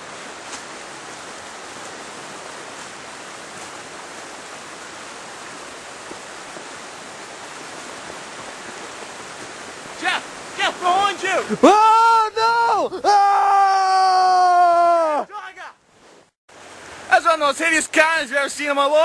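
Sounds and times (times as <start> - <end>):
river rushing: 0.0 - 13.4, 15.0 - 19.0.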